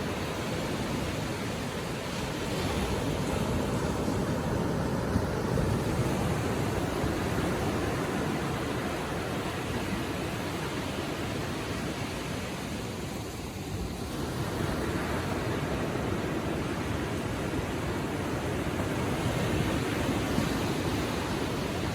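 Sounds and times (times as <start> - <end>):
gentle ocean waves on shore: 0.0 - 21.9.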